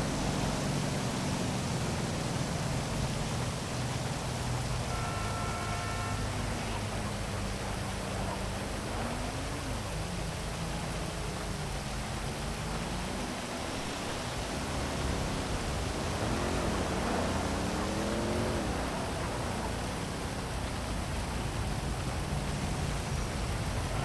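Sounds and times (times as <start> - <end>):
heavy rain hissing: 0.0 - 24.0
vehicle engines passing: 0.0 - 24.0.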